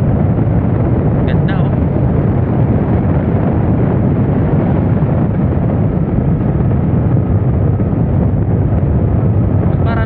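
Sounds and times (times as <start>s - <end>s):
road noise: 0.0s - 10.0s
wind rush on microphone: 0.0s - 10.0s.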